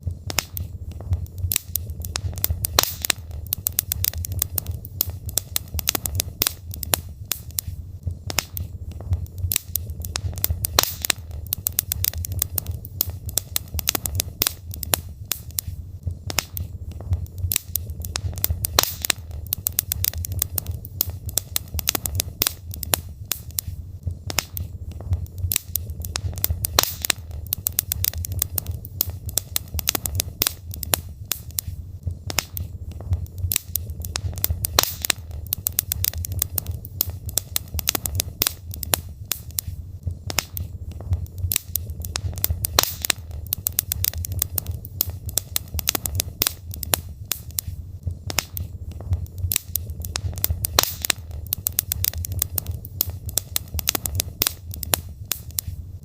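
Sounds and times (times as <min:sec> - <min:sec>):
fire pops and crackles: 0:00.0 - 0:56.0
low rumble of fire: 0:00.0 - 0:56.0.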